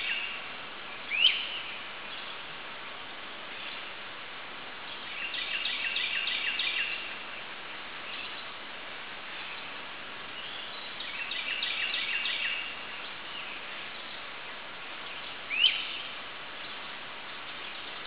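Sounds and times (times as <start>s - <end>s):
small birds chirping: 0.0s - 4.0s, 4.7s - 18.0s
background hiss: 0.0s - 18.0s.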